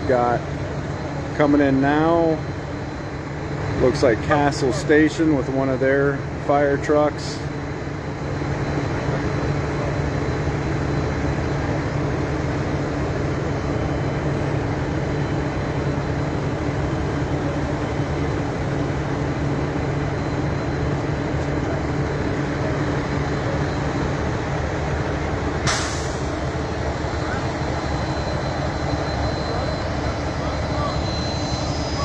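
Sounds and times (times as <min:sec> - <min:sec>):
fire truck engine running: 0:00.0 - 0:32.0.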